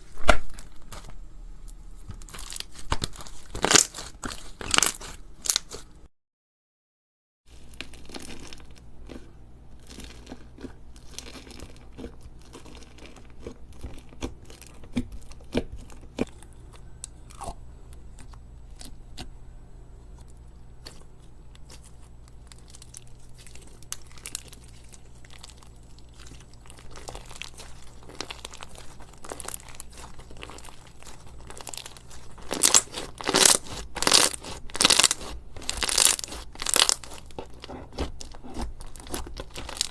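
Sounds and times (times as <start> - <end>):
crunchy slime crackling: 0.0 - 6.1, 7.5 - 17.6, 20.3 - 39.9.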